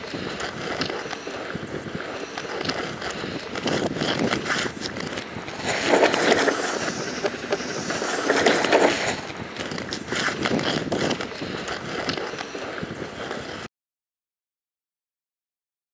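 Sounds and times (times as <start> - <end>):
roller-skate wheels on asphalt: 0.0 - 13.7.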